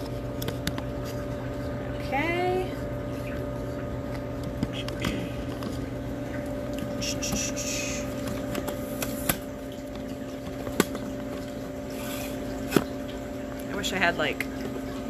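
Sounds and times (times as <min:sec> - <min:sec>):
filter pump humming: 0:00.0 - 0:15.0
water circulating: 0:00.0 - 0:15.0.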